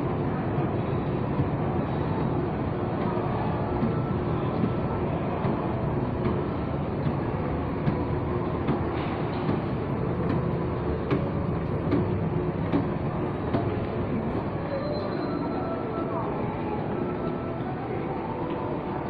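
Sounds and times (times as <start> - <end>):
shopping mall ambient rumble: 0.0 - 19.0.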